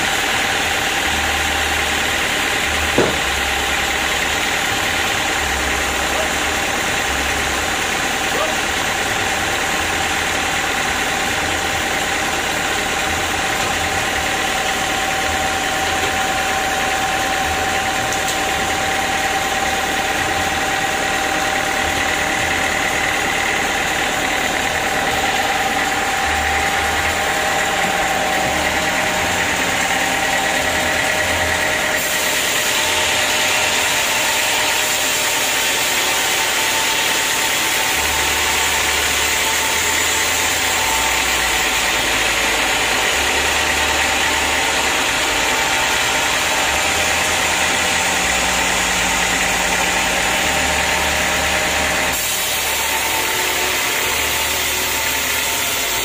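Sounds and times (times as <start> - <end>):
band saw mechanical hum: 0.0 - 56.0.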